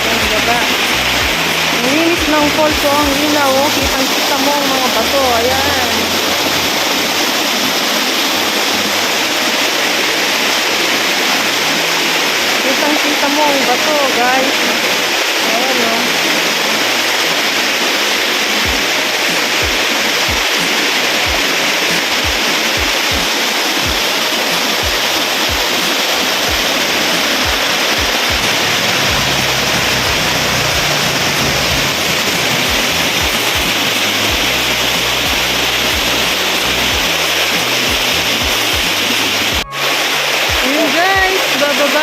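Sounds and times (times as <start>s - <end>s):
waterfall rushing onto rocks: 0.0s - 42.0s.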